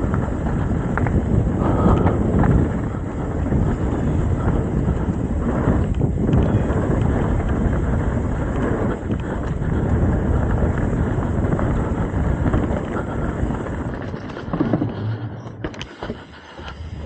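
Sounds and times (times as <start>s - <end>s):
bike clicks and rattles: 0.0s - 17.0s
tyres rumbling over dirt trail: 0.0s - 17.0s
wind buffeting microphone: 0.0s - 17.0s.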